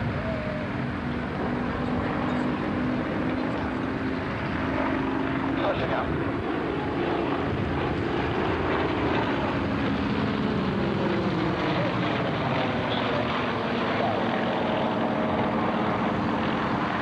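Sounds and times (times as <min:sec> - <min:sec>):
propeller aircraft engines: 0:00.0 - 0:17.0.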